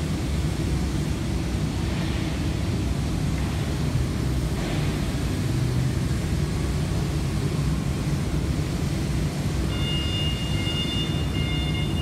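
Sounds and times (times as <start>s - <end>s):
high steady multi-tone whine: 0.0s - 12.0s.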